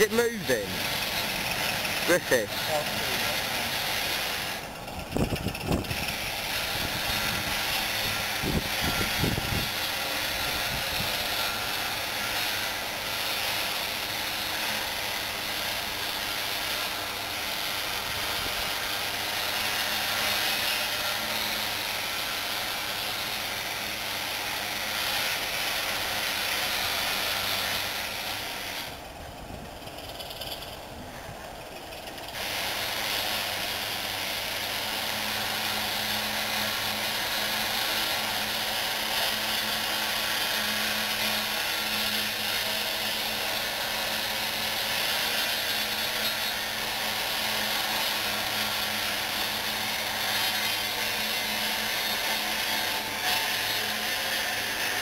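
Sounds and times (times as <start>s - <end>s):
diesel locomotive engine running: 0.0s - 47.6s.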